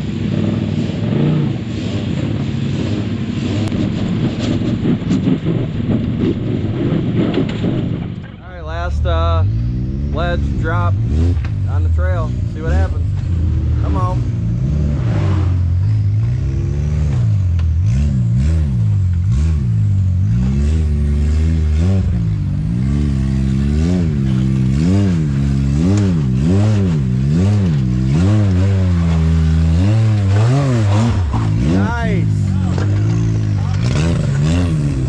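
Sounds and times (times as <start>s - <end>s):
engine revving up and down: 0.0s - 35.0s.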